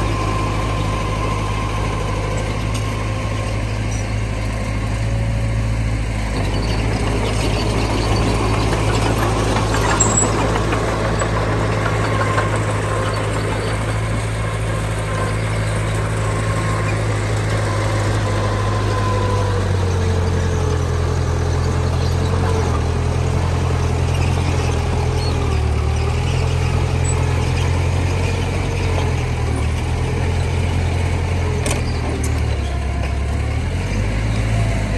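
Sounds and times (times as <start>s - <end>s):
heavy machinery diesel engine: 0.0s - 34.9s.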